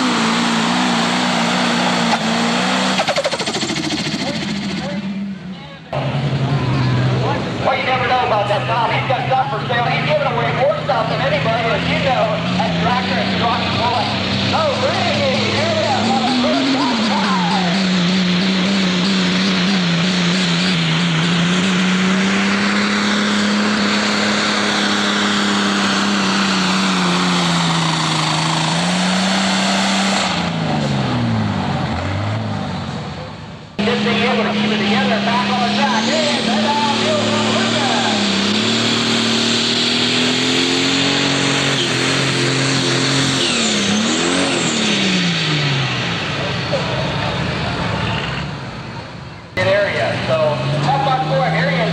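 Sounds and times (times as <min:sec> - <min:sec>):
diesel tractor engine at high revs: 0:00.0 - 0:51.9.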